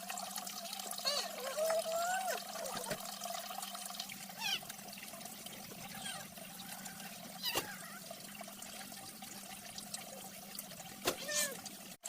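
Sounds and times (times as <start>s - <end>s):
water trickling and pouring: 0.0s - 12.0s
sharp water splashes: 1.4s - 12.0s.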